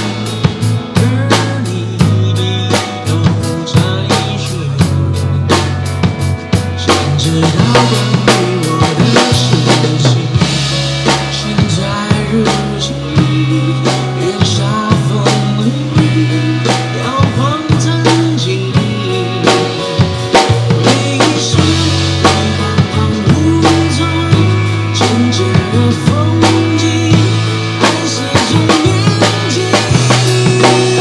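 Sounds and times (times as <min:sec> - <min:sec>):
acoustic drum kit playing: 0:00.0 - 0:31.0
recorded backing track: 0:00.0 - 0:31.0
steady bass notes: 0:00.0 - 0:31.0.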